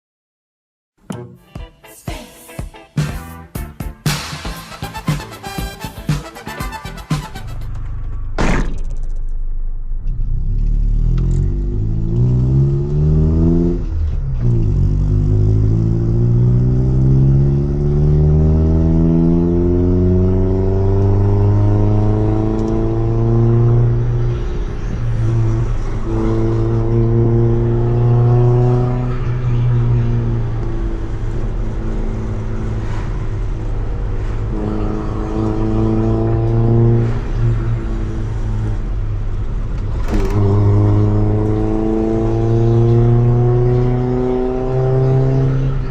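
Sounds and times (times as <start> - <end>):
car engine accelerating: 7.1 - 45.9.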